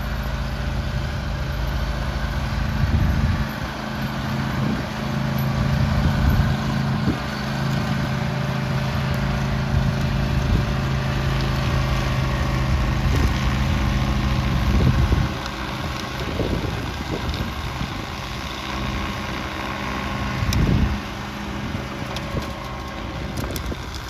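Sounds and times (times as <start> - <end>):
snowblower engine running: 0.0 - 24.0.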